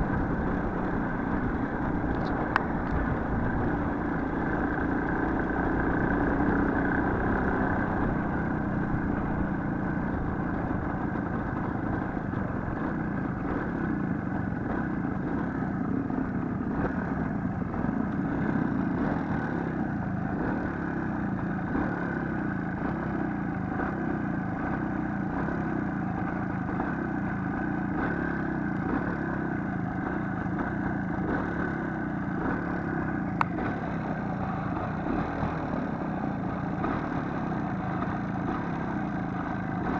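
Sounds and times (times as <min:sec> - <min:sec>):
small motorcycle engine: 0:00.0 - 0:39.9.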